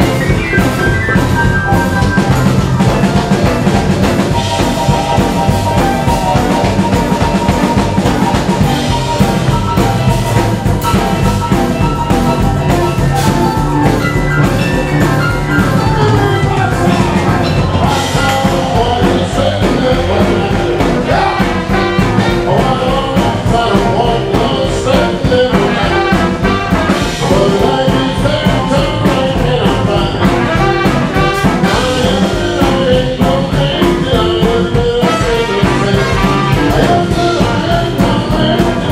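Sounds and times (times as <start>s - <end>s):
bass: 0.0s - 38.9s
drums: 0.0s - 38.9s
electric guitar: 0.0s - 38.9s
horn section: 0.0s - 38.9s
keyboard: 0.0s - 38.9s.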